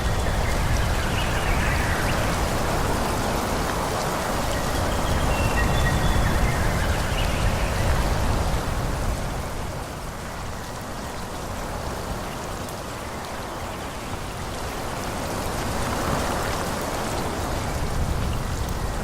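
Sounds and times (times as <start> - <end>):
wind gusting through trees: 0.0 - 19.0.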